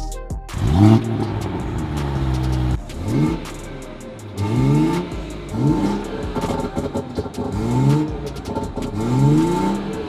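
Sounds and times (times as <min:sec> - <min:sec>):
car engine revving: 0:00.5 - 0:10.0.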